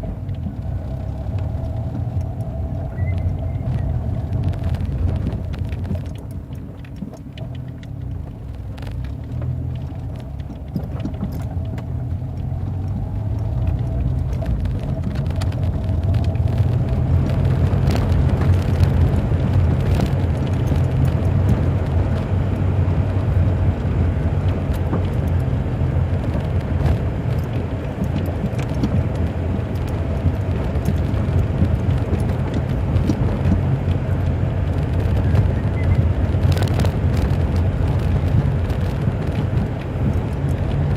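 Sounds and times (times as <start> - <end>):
motor vehicle rumbling: 0.0 - 40.9.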